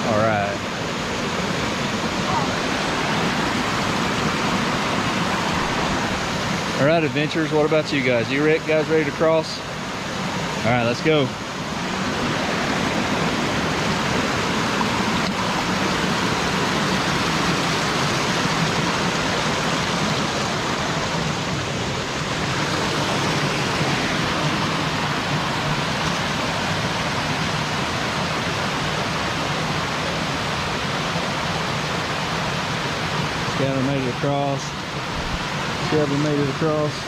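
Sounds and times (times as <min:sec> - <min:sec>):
stream rushing over cascade: 0:00.0 - 0:37.0.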